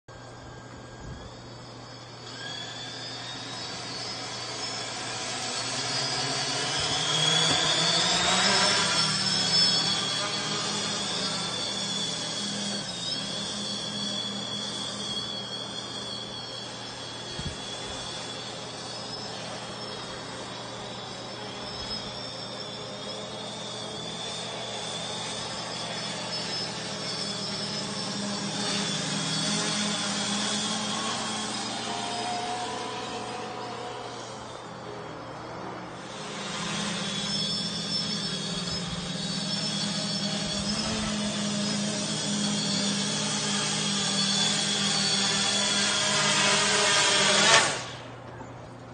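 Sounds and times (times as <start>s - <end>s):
drone propellers buzzing whine: 0.1s - 48.9s.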